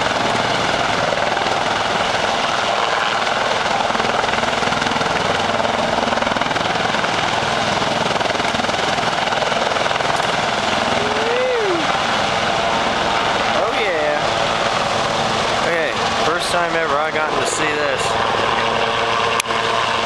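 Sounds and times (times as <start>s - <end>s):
helicopter flying: 0.0s - 20.0s.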